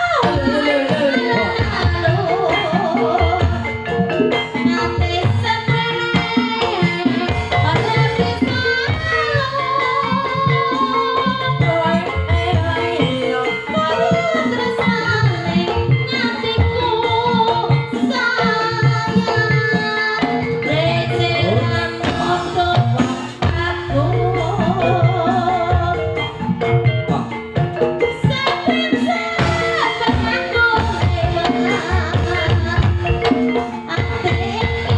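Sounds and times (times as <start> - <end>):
person singing: 0.0 - 4.0, 4.6 - 34.9
hand drum beats: 0.0 - 34.9.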